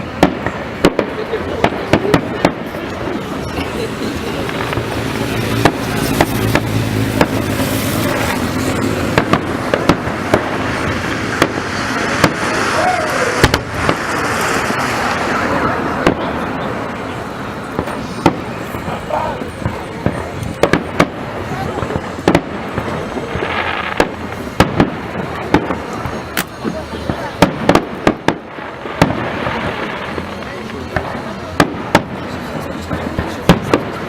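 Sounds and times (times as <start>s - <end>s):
continuous rumble: 0.0s - 34.0s
fireworks bursting with sharp bangs: 0.0s - 34.0s.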